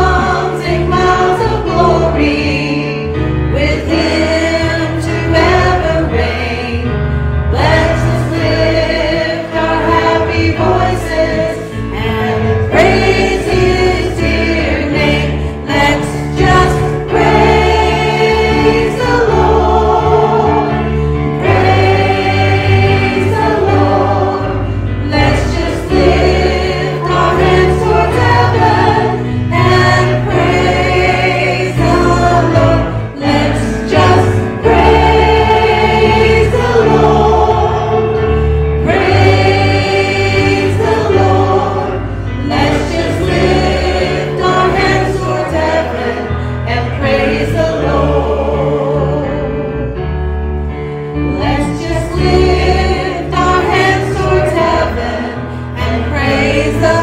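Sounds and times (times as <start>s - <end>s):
group singing gospel song: 0.0s - 50.0s, 51.1s - 57.0s.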